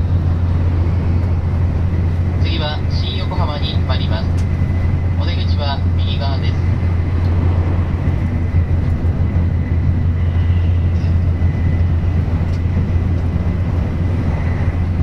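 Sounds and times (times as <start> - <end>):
train running at speed: 0.0 - 15.0.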